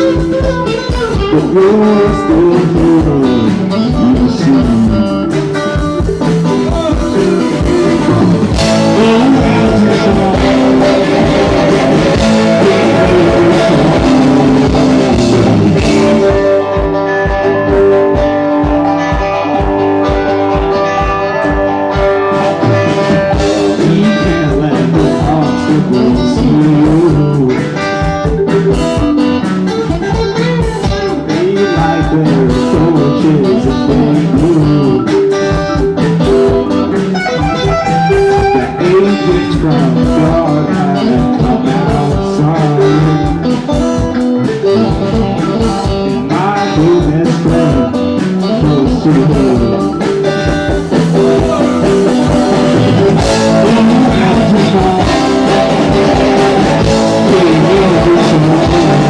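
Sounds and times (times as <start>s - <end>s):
guitar lead with bending notes: 0.0s - 59.0s
live rock band playing: 0.0s - 59.0s.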